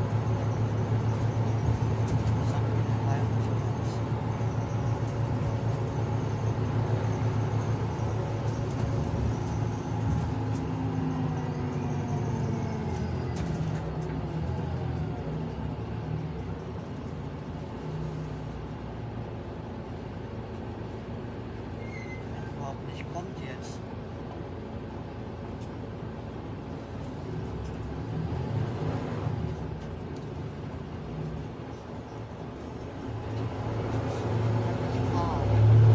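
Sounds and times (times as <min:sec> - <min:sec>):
bus engine running: 0:00.0 - 0:35.9.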